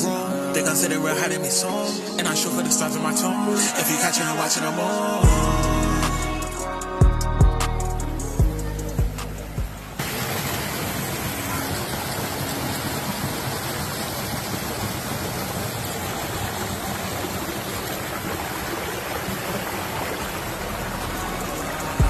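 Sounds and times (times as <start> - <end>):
stream water rushing: 0.0 - 6.9, 9.1 - 22.0.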